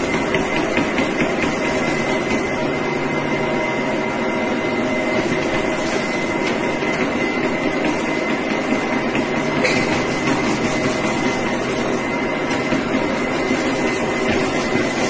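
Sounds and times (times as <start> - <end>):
treadmill belt rumble: 0.0 - 15.0
treadmill motor hum and whine: 0.0 - 15.0.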